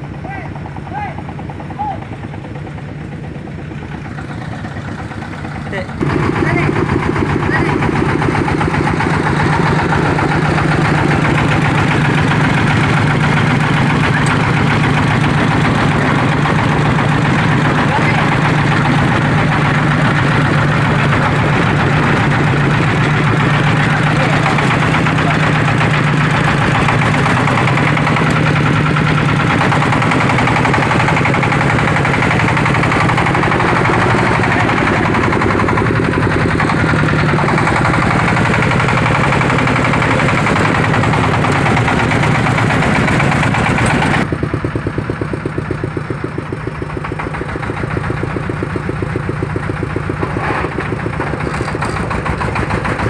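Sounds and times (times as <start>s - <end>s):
loud engine running: 0.0s - 53.0s.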